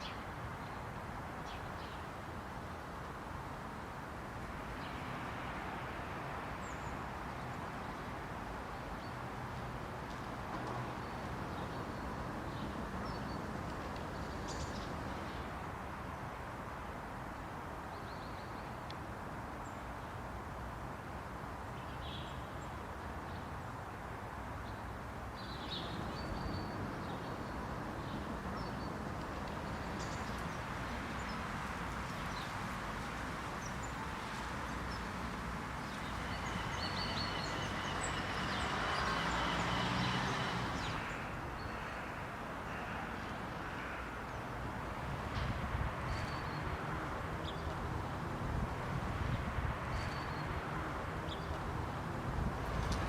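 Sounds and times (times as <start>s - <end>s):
distant city traffic hum: 0.0s - 53.0s.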